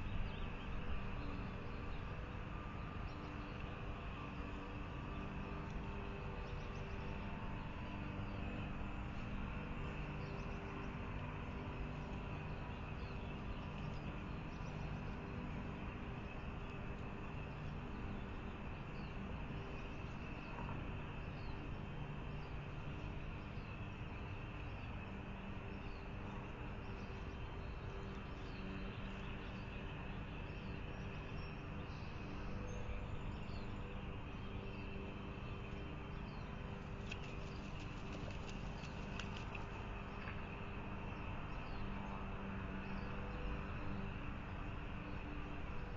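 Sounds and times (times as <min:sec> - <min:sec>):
outdoor background hum: 0:00.0 - 0:45.9.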